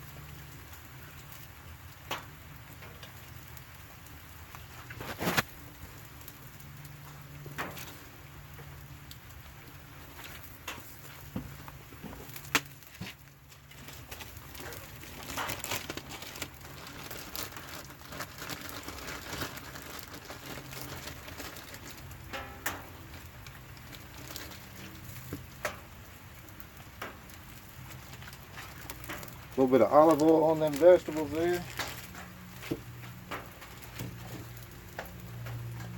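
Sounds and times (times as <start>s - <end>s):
campfire crackling and popping: 0.0s - 35.9s
rain pattering: 0.0s - 35.9s.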